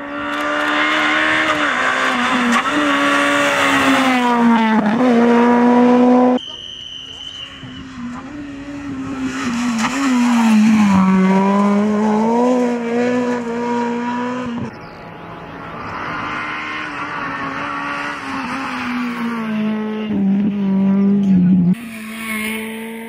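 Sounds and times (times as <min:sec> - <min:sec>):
rally car engine at high revs: 0:00.0 - 0:06.4, 0:07.6 - 0:23.0.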